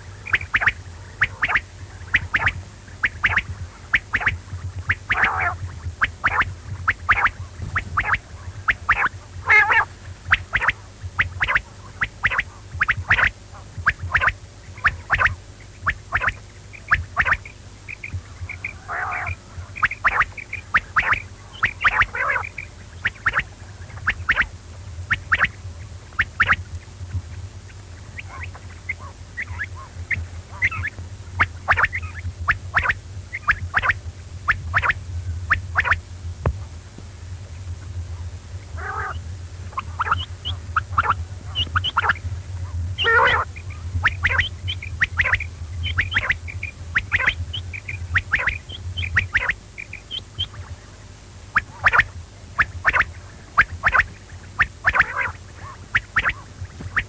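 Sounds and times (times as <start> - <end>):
quail calling: 0.0 - 36.0, 38.7 - 50.8, 51.5 - 57.0
steady low hum: 0.0 - 57.0.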